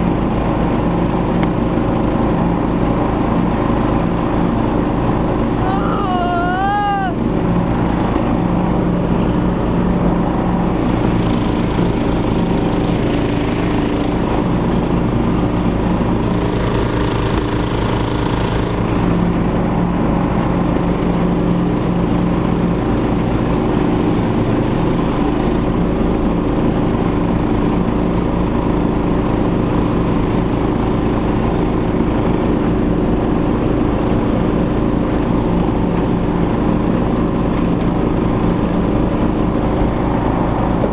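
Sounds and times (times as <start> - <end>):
riding mower engine cutting grass: 0.0 - 40.9.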